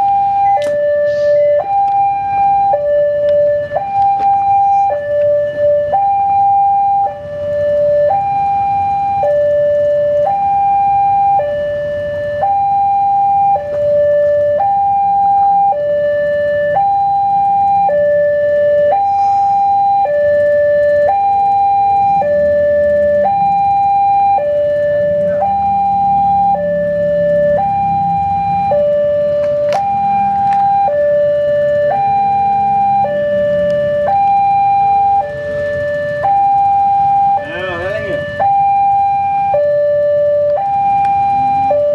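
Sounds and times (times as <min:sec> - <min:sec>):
level crossing two-tone alarm: 0:00.0 - 0:41.9.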